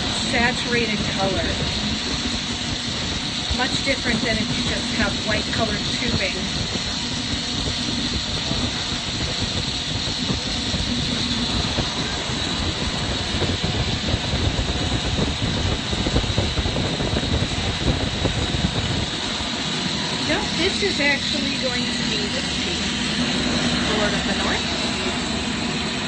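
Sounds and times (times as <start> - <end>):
low rumble: 0.0 - 26.0
torch flame hissing: 0.0 - 26.0.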